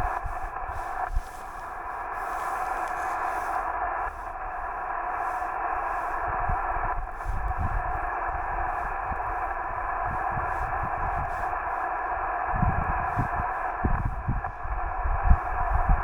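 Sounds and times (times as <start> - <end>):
faint steady tones: 0.0 - 16.0
radio receiver hiss: 0.0 - 16.0.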